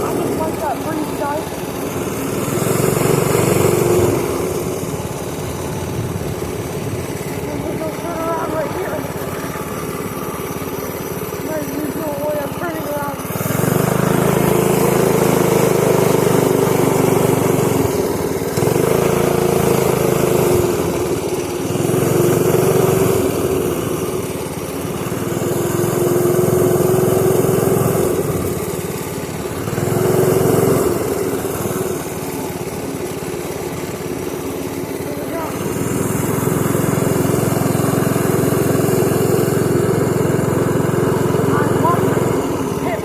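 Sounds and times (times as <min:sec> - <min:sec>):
pit bike engine revving: 0:00.0 - 0:43.0.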